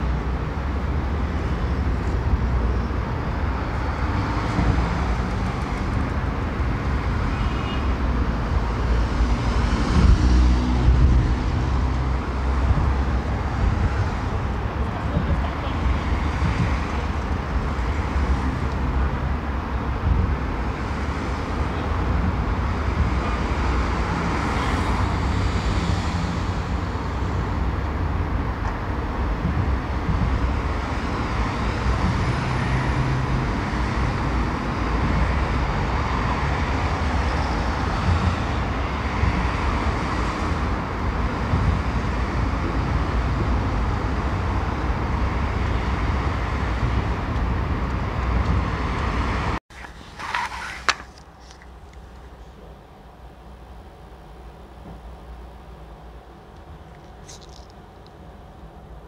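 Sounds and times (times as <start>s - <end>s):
cars driving past: 0.0s - 51.6s.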